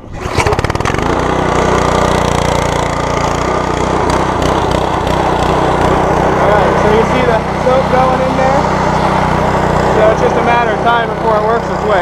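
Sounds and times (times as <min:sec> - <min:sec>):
pressure washer engine: 0:00.0 - 0:12.0.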